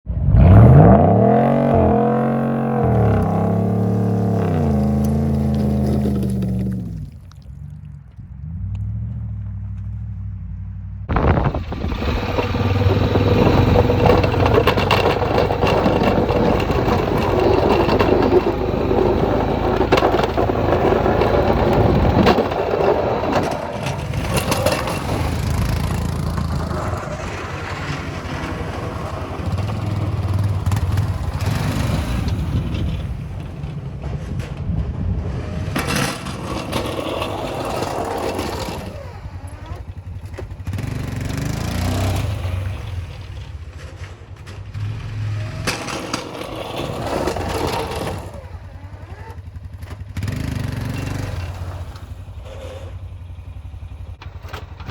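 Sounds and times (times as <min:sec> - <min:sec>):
vehicle engine running: 0:00.0 - 0:54.9
snow crunching and scraping: 0:01.7 - 0:07.0, 0:11.1 - 0:52.9.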